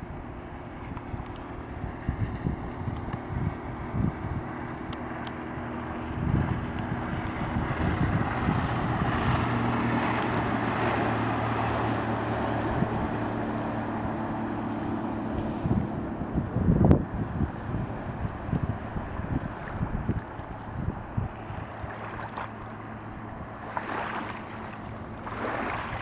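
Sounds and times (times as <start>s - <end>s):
outboard motor running: 0.0s - 26.0s
water rushing along hull: 0.0s - 26.0s
wind buffeting microphone: 0.0s - 26.0s.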